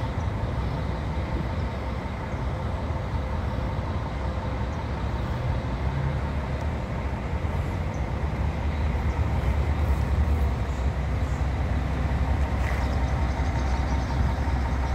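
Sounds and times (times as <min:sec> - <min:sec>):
bus diesel engine rumbling: 0:00.0 - 0:14.9.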